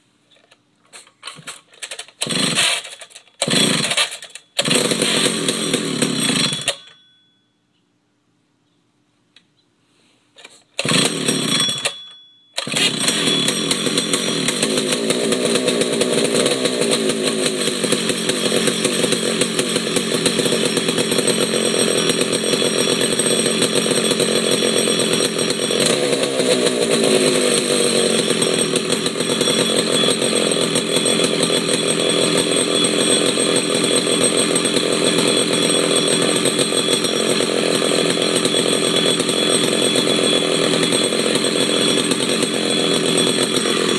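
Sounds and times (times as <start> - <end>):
chainsaw engine starting and running: 1.3 - 7.1, 10.4 - 43.9.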